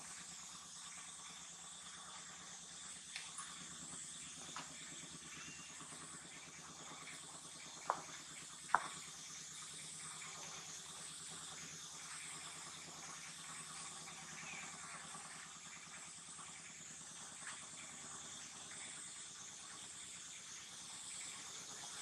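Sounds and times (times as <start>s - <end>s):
high-pitched outdoor hiss: 0.0s - 22.0s.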